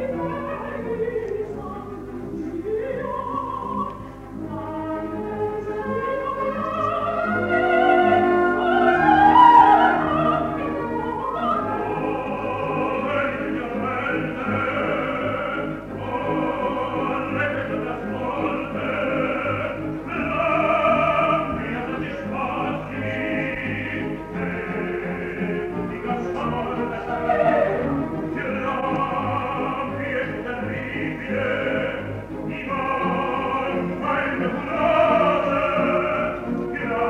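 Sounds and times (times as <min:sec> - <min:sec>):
orchestra playing: 0:00.0 - 0:37.0
soprano singing opera: 0:00.0 - 0:37.0.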